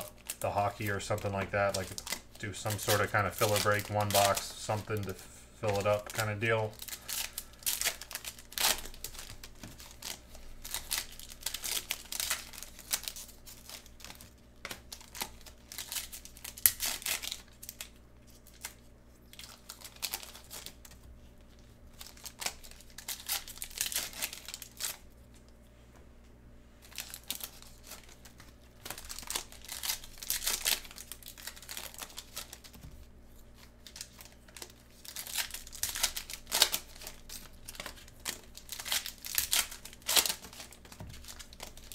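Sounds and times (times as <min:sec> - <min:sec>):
plastic wrappers crinkling and tearing: 0:00.0 - 0:25.6, 0:26.8 - 0:41.9.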